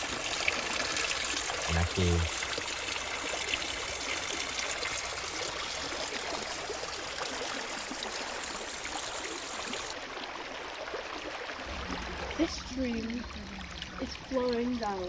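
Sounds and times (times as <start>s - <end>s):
stream trickling over stones: 0.0s - 15.0s.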